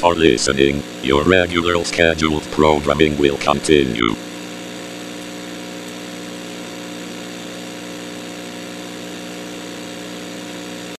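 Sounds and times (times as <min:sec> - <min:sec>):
droning hum of held tones: 0:00.0 - 0:11.0
static hiss: 0:00.0 - 0:11.0.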